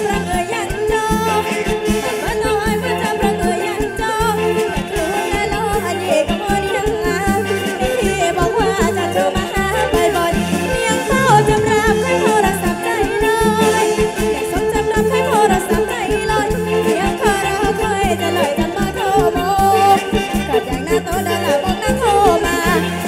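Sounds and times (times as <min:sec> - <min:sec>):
live band with drums and horns: 0:00.0 - 0:23.0
woman singing: 0:00.0 - 0:23.0.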